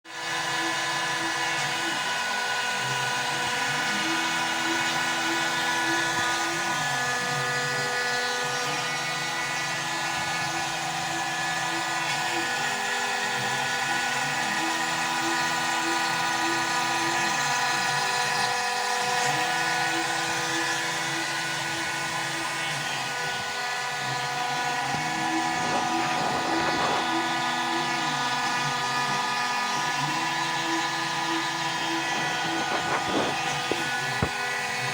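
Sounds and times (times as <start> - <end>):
spindle motor whining: 0.1 - 34.9
stepper motors whining: 0.1 - 34.9.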